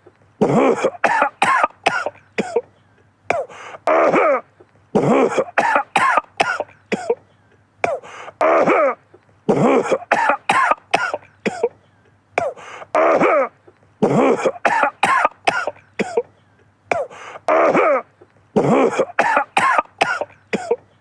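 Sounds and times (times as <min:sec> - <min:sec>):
man coughing: 0:00.4 - 0:11.8, 0:12.4 - 0:21.0.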